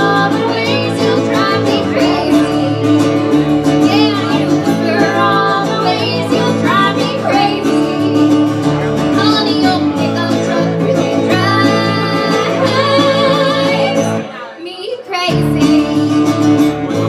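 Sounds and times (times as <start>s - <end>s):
woman singing: 0.0s - 8.5s, 9.1s - 16.7s
bass guitar: 0.0s - 14.3s, 15.3s - 17.0s
strummed acoustic guitar: 0.0s - 14.6s, 15.2s - 17.0s.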